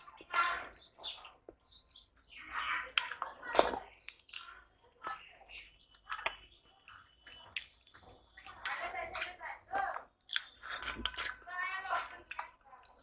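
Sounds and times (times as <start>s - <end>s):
chewing and wet mouth sounds: 0.0s - 13.0s.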